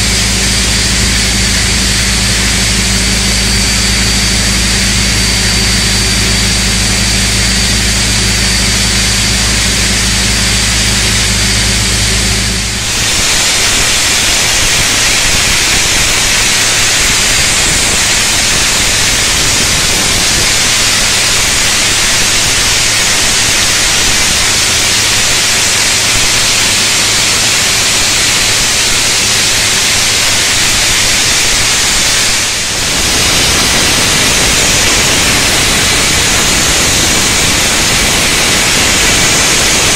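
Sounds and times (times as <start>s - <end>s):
loud industrial hiss: 0.0s - 39.9s
machine hum with low tones: 0.0s - 39.9s.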